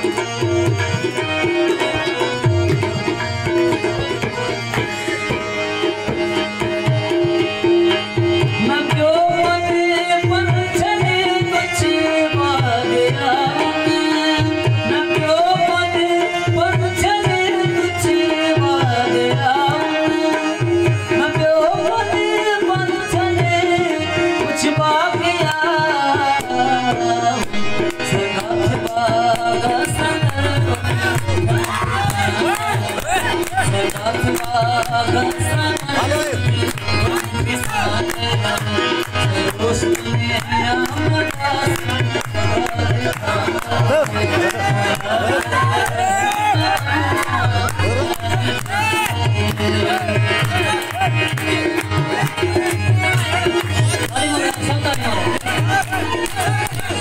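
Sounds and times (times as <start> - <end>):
harmonium: 0.0 - 57.0
man singing: 0.0 - 57.0
tabla playing: 0.0 - 57.0.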